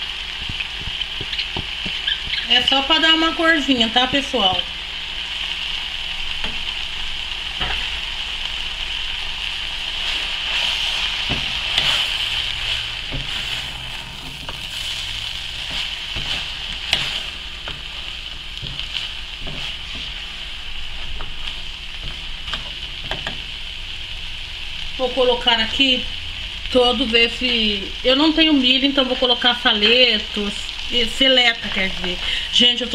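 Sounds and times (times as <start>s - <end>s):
chicken filling sizzling in a pot: 0.0s - 32.9s.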